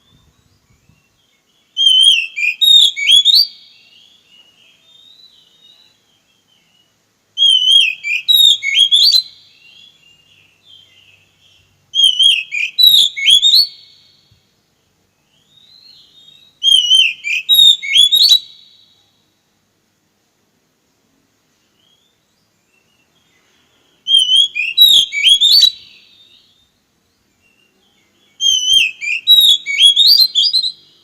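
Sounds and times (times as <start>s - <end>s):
magpie-robin whistled song: 0.0s - 14.4s, 15.1s - 19.1s, 21.6s - 31.0s.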